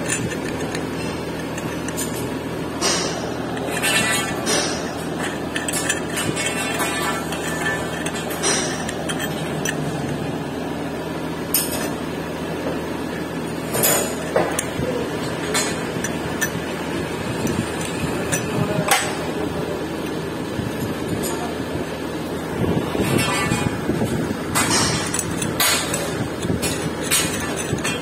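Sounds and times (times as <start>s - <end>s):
steady background noise: 0.0s - 28.0s.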